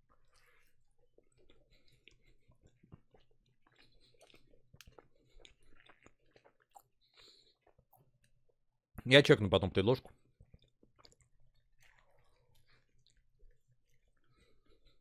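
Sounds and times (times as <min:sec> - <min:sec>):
man chewing: 0:00.0 - 0:08.6, 0:10.0 - 0:15.0.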